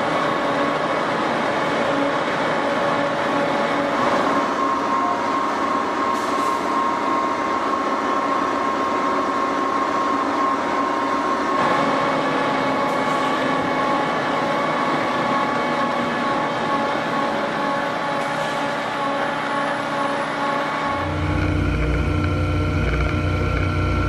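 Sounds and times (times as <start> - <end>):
steady whine: 0.0 - 24.0.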